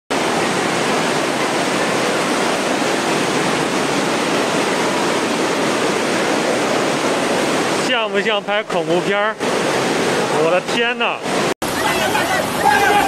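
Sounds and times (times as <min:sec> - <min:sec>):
floodwater rushing: 0:00.1 - 0:13.0.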